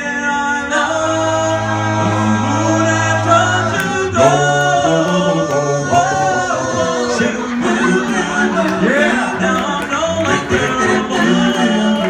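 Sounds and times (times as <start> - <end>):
male group singing a cappella: 0.0 - 12.0.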